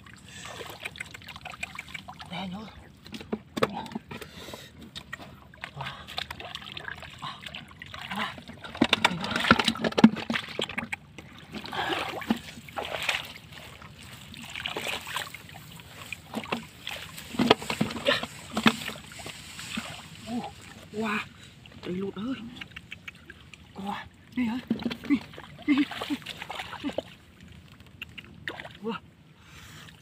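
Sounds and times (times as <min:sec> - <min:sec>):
muddy water splashing and sloshing: 0:00.0 - 0:30.0.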